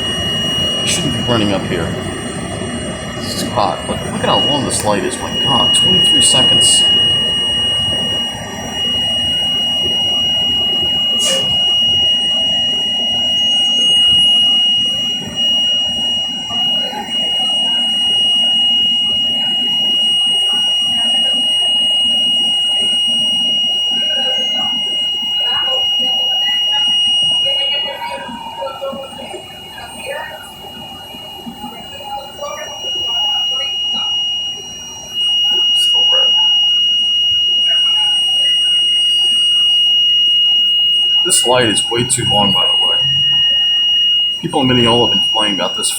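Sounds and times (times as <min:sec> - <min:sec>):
high-pitched warning alarm tone: 0:00.0 - 0:45.9.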